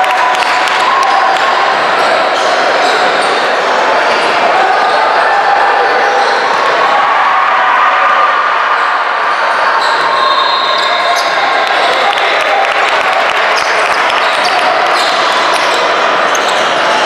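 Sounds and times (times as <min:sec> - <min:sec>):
echoing crowd chatter: 0:00.0 - 0:17.0.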